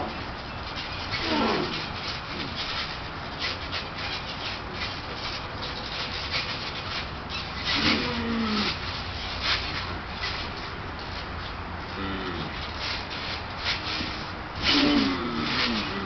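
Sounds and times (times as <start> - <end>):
steady noisy hiss: 0.0 - 16.0
trampoline thumping and creaking: 0.0 - 16.0.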